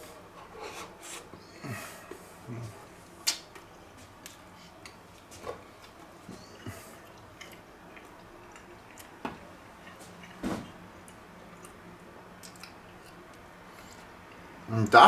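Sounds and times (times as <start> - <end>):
man chewing food: 1.6 - 14.5.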